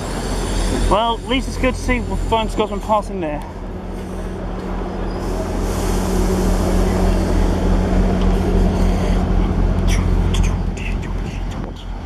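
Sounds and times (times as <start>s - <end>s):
train diesel engines idling: 0.0s - 12.0s.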